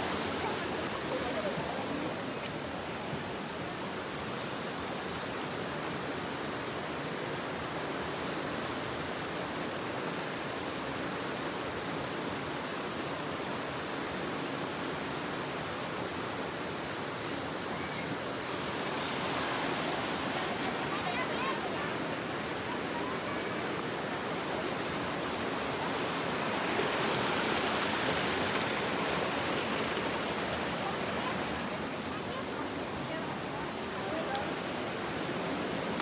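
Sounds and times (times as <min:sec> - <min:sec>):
water rushing over rocks: 0:00.0 - 0:36.0.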